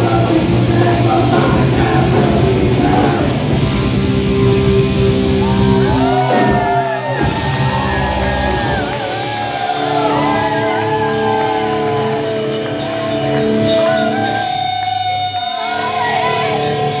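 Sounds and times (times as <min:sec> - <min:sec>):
electric guitars bending notes: 0:00.0 - 0:17.0.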